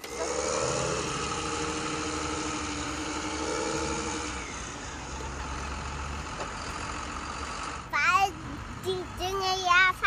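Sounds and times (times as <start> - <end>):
tractor engine droning: 0.0 - 10.0.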